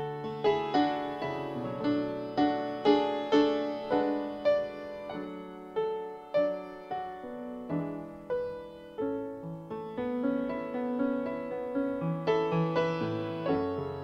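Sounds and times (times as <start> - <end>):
slow piano tune: 0.0 - 14.0.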